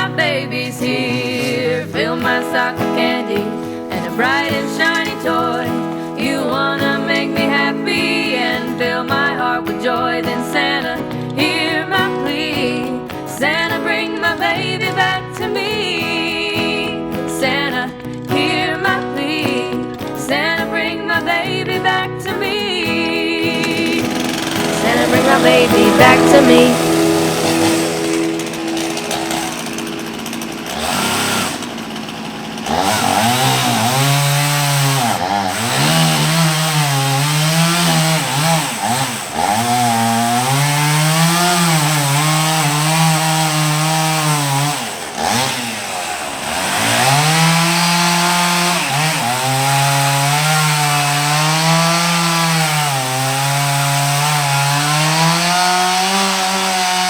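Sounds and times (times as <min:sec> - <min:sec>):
chainsaw cutting wood: 0:00.0 - 0:21.6, 0:22.4 - 0:57.0.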